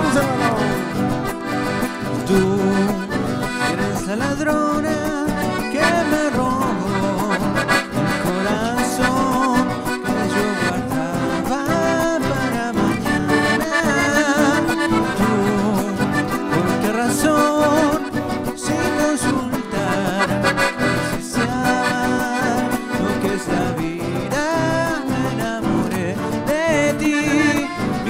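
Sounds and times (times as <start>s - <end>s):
accordion melody: 0.0s - 28.0s
strummed acoustic guitars: 0.0s - 28.0s.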